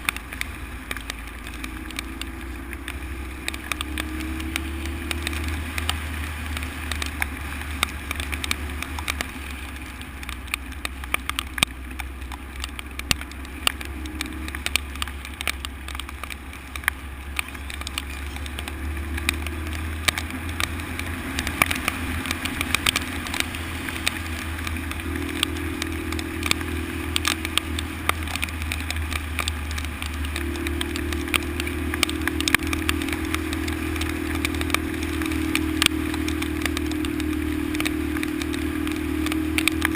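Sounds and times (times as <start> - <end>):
knocks and rattles from bike: 0.0 - 39.9
motorcycle engine running: 0.0 - 39.9.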